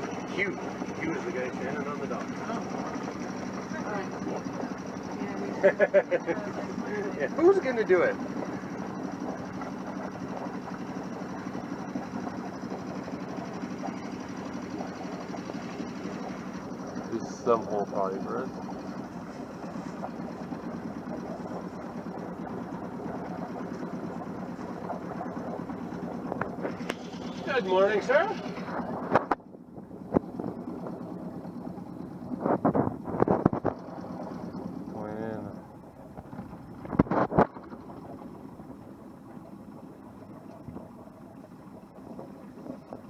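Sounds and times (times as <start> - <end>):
boat engine running: 0.0 - 43.0.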